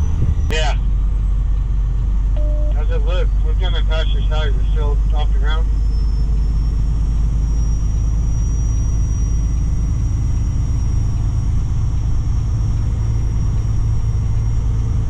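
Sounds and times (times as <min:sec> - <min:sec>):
road noise: 0:00.0 - 0:15.0
truck diesel engine drone: 0:00.0 - 0:15.0.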